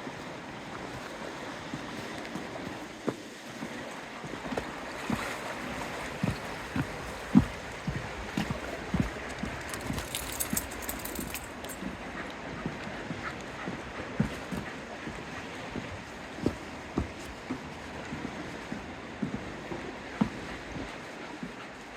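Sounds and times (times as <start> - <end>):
water washing on shore: 0.0 - 21.9
wind: 0.0 - 21.9.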